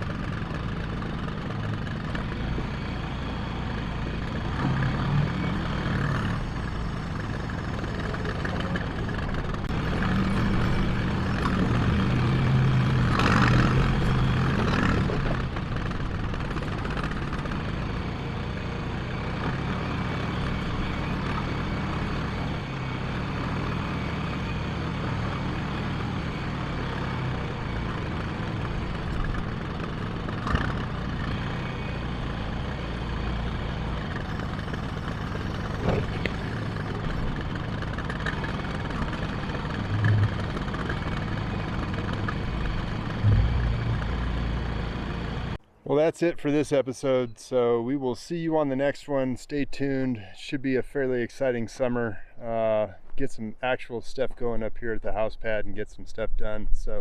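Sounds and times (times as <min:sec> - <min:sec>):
backhoe diesel engine running: 0:00.0 - 0:45.8.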